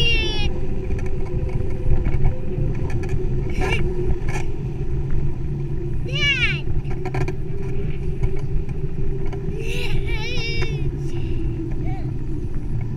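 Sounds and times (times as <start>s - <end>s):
wind and riding noise on microphone: 0.0s - 12.9s.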